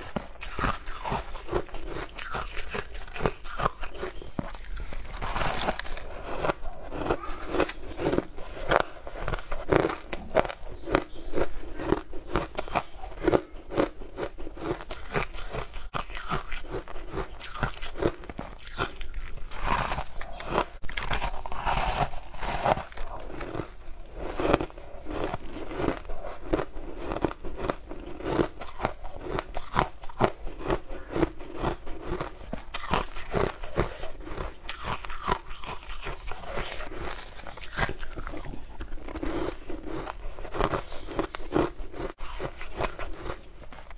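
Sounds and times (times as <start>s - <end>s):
chewing crunchy ice: 0.0s - 43.9s.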